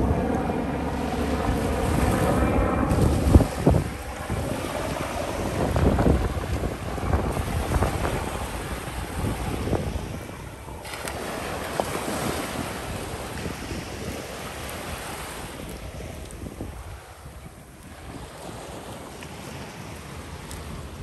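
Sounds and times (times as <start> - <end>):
wind buffeting microphone: 0.0 - 21.0
surf waves washing on sand: 0.8 - 21.0.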